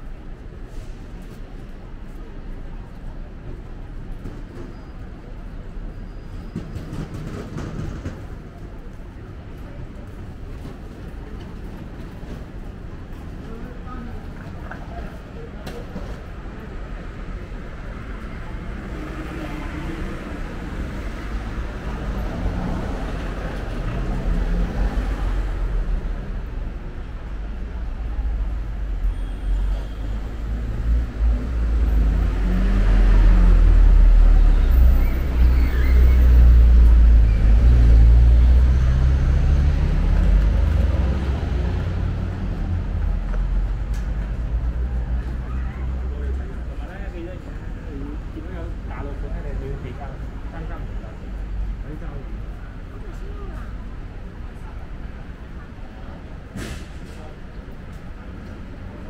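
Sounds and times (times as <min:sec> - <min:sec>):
low rumble of traffic: 0:00.0 - 0:59.0.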